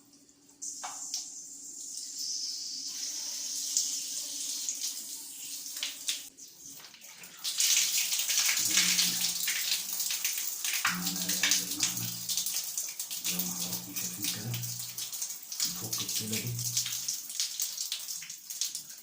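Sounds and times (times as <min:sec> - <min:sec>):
water running and splashing: 0:00.6 - 0:19.0.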